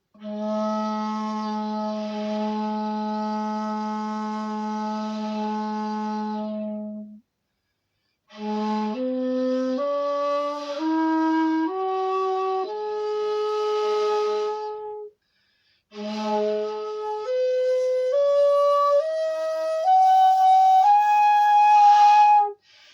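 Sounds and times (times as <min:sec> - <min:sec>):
bamboo flute playing ascending scale: 0:00.2 - 0:07.2, 0:08.3 - 0:15.1, 0:15.9 - 0:22.6.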